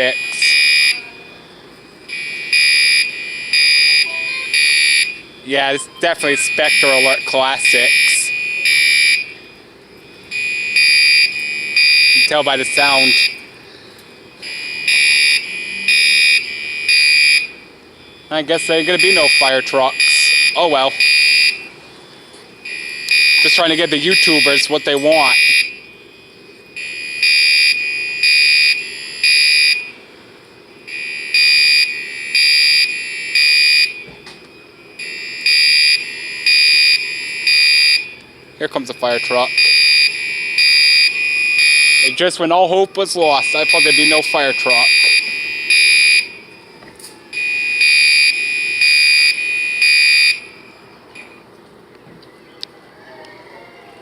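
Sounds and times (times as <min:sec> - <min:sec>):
fire alarm horn blasts: 0:00.0 - 0:13.6, 0:14.2 - 0:51.5.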